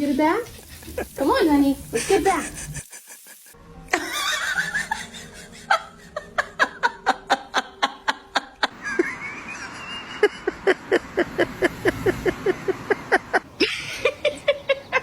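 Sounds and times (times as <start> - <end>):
person laughing: 0.8 - 1.3, 1.9 - 15.0.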